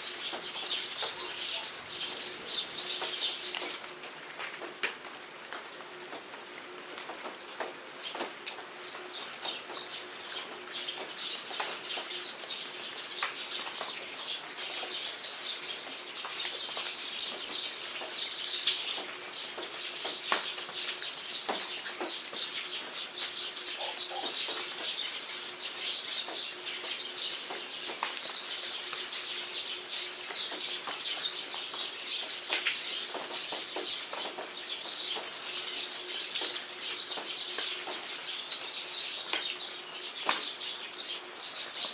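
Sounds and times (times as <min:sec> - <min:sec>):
birds chirping: 0:00.0 - 0:04.0, 0:08.8 - 0:41.9
rain falling: 0:00.0 - 0:41.9
raindrops ticking: 0:00.0 - 0:41.9.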